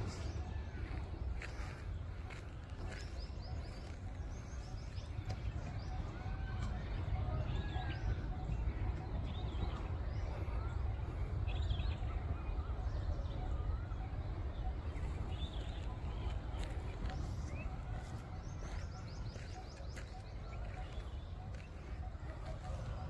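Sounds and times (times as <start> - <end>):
small birds chirping: 0.0 - 23.0
wind rumble on microphone: 0.0 - 23.0.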